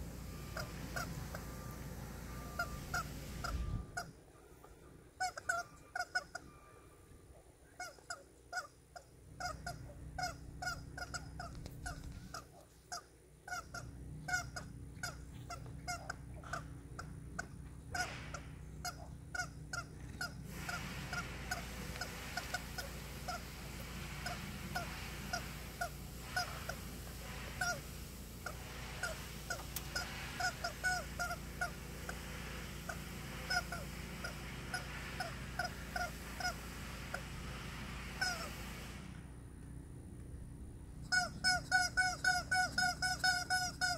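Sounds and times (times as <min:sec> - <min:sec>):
rubber chicken toy squawking: 0:00.4 - 0:04.4, 0:05.1 - 0:06.6, 0:07.6 - 0:37.2, 0:38.1 - 0:38.6, 0:41.0 - 0:43.9.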